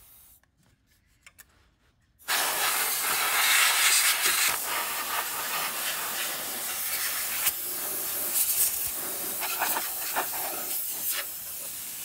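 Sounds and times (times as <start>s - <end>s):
compressed air hissing: 2.2s - 12.0s.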